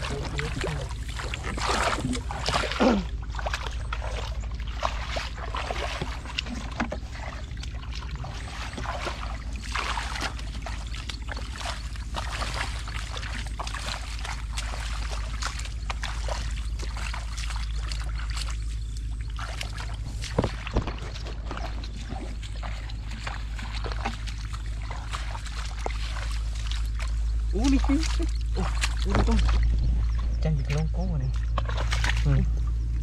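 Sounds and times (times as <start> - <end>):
rustling through grass and mud: 0.0 - 33.0
steady low rumble: 0.0 - 33.0.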